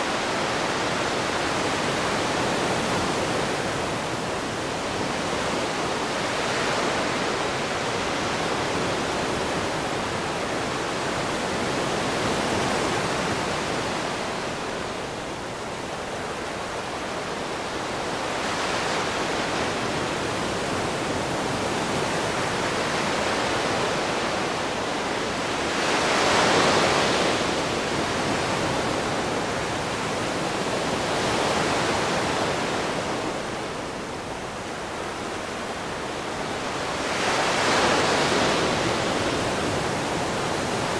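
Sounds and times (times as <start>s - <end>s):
ocean waves washing ashore: 0.0s - 40.9s.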